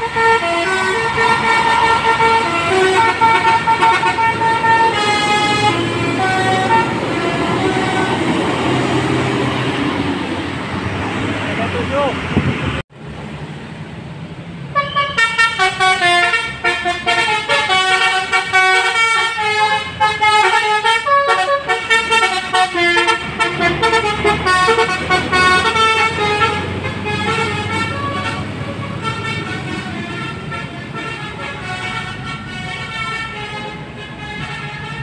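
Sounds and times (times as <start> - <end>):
multi-tone bus air horn melody: 0.0 - 9.2, 14.7 - 35.0.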